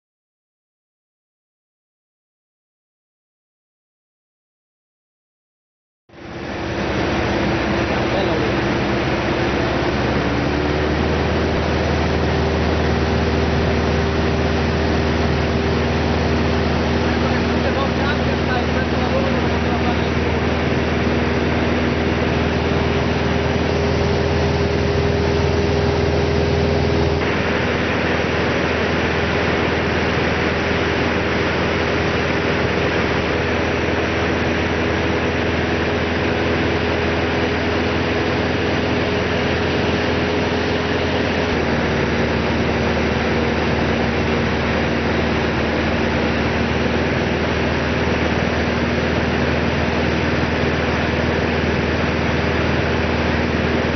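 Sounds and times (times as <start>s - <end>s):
airplane engine and propeller drone: 6.1s - 53.9s.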